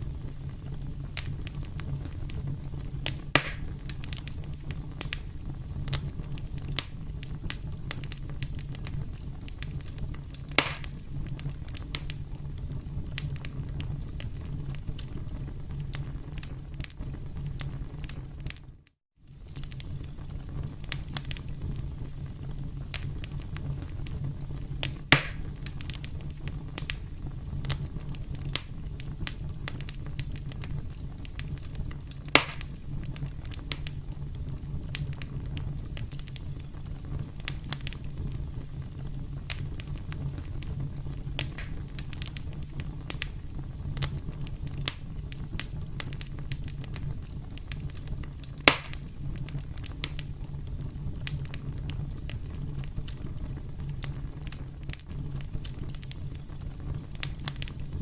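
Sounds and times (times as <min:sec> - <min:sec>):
campfire crackling: 0:00.0 - 0:58.0
loud fire pops: 0:00.0 - 0:58.0.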